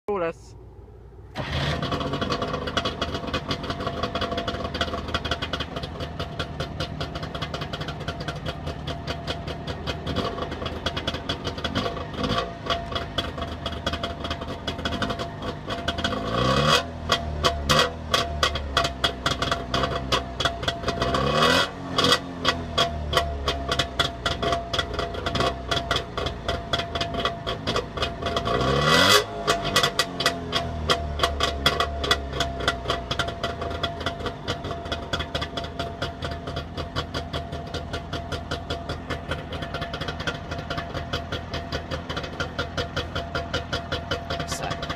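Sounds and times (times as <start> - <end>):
two-stroke engine idling and revving: 1.1 - 44.9.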